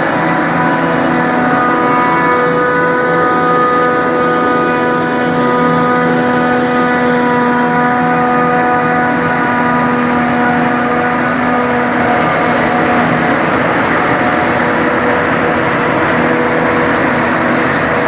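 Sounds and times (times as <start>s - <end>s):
forage harvester running: 0.0s - 18.0s
steady machine tones: 0.0s - 18.0s.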